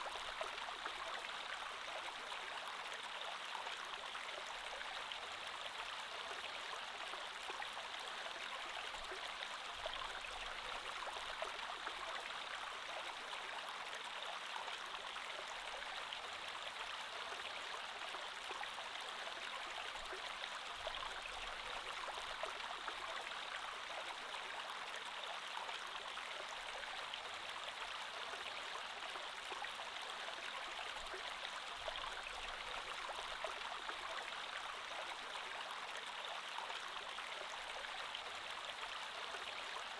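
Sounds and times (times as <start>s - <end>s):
creek water babbling over stones: 0.0s - 39.9s.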